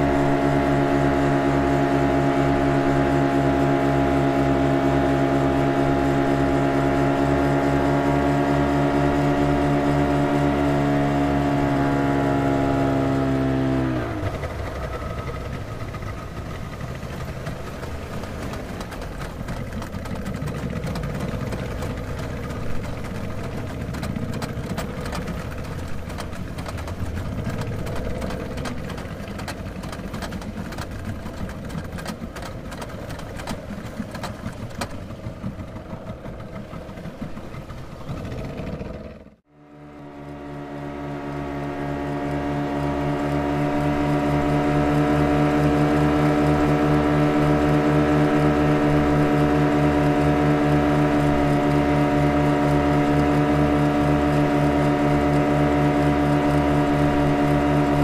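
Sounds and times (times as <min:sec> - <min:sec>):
boat engines droning: 0:00.0 - 0:58.0.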